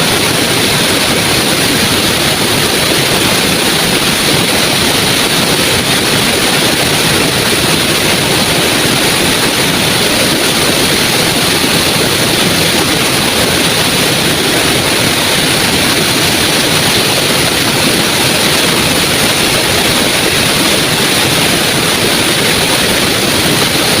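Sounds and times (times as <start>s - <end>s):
small waterfall hissing: 0.0s - 24.0s.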